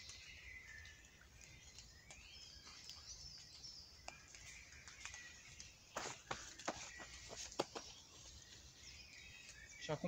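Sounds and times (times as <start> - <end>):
birdsong chirps and trills: 0.0 - 10.0.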